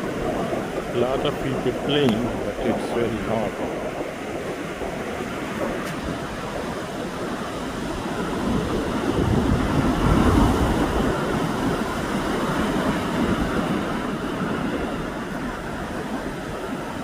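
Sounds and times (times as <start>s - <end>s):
ocean surf washing onto beach: 0.0s - 17.0s
wind buffeting microphone: 0.0s - 17.0s.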